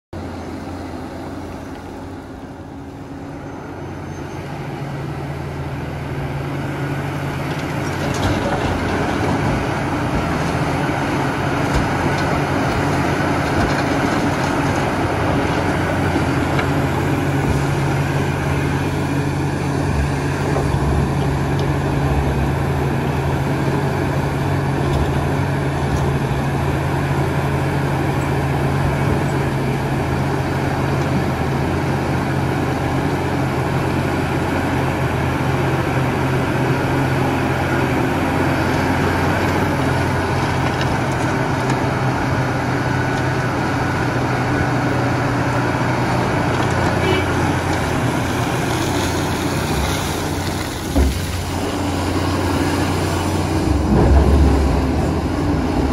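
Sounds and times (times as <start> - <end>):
excavator diesel engine drone: 0.2 - 55.9.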